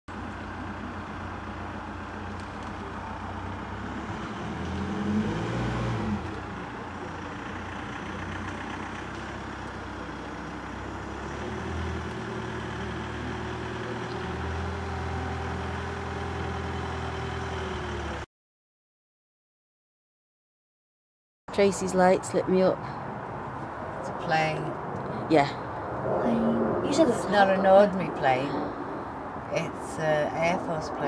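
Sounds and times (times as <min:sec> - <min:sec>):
engine drone with pitched hum: 0:00.1 - 0:18.2, 0:21.5 - 0:31.0.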